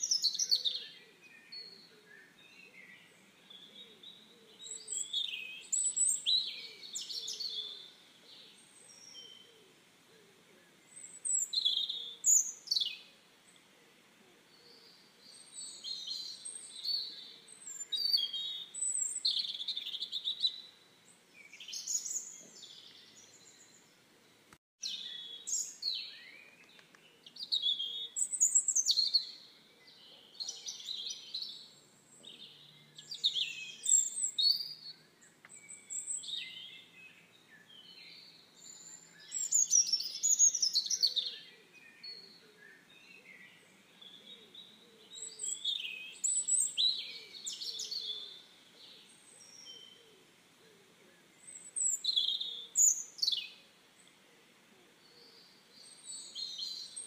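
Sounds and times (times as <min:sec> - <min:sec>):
faint outdoor hiss: 0:00.0 - 0:57.0
songbirds singing: 0:00.0 - 0:57.0.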